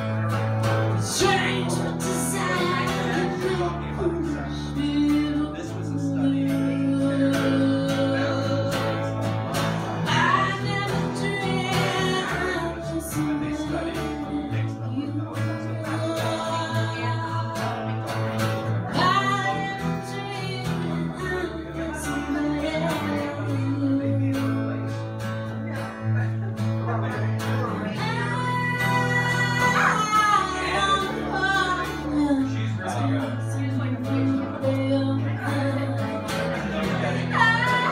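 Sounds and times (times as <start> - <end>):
strummed acoustic guitar: 0.0 - 37.9
woman singing: 0.7 - 9.1, 10.0 - 18.0, 18.9 - 25.0, 27.9 - 37.9.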